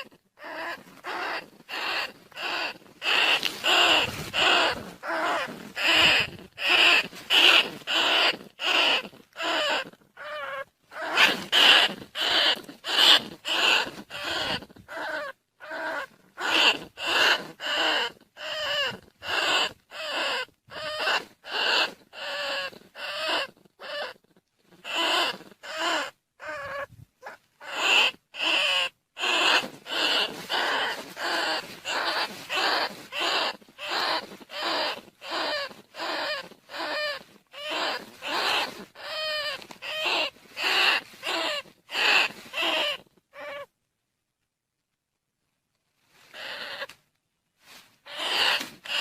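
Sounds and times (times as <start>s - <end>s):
rats squeaking: 0.0s - 43.7s, 46.3s - 47.0s, 48.0s - 49.0s.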